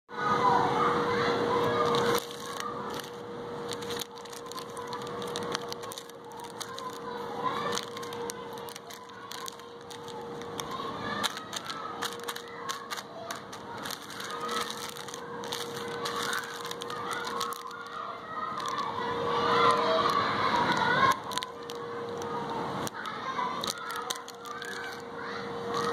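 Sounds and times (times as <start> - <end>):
faint steady hum: 0.1 - 25.9
plastic wrappers crinkling: 1.6 - 25.9.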